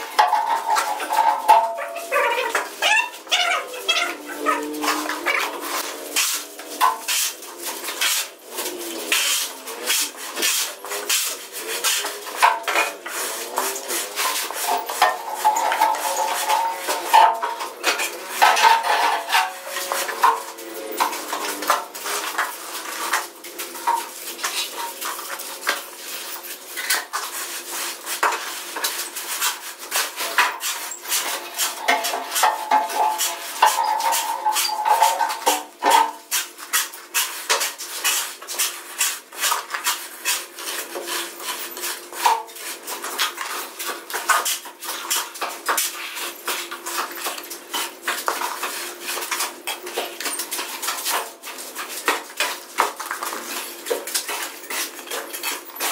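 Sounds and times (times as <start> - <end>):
trowel scraping wet mortar: 0.0 - 55.9.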